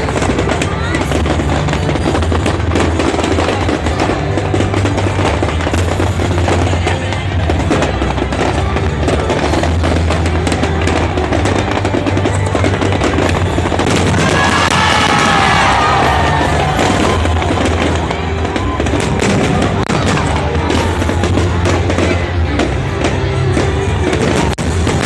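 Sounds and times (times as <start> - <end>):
fireworks crackling and popping: 0.0 - 25.0
loud music with deep bass: 0.0 - 25.0.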